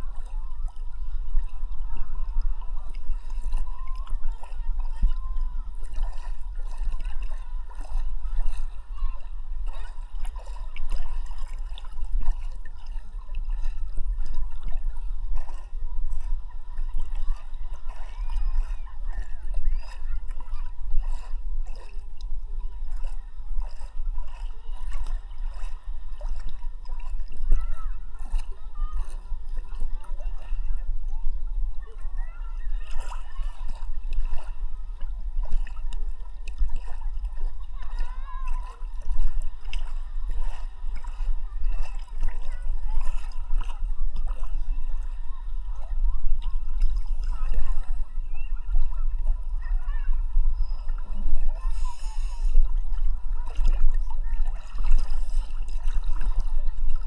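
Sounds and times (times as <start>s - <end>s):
sea water sloshing and splashing: 0.0s - 57.0s.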